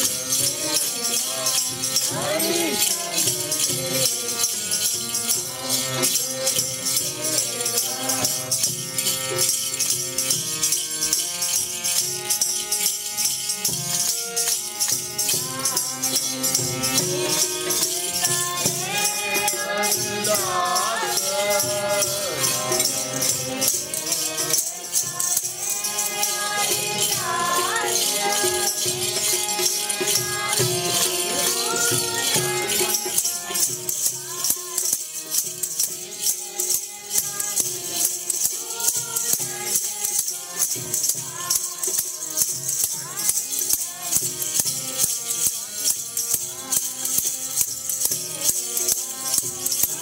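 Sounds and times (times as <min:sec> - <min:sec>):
devotional singing: 0:00.0 - 0:09.9, 0:14.0 - 0:50.0
harmonium: 0:00.0 - 0:50.0
jingling rattle percussion: 0:00.0 - 0:50.0.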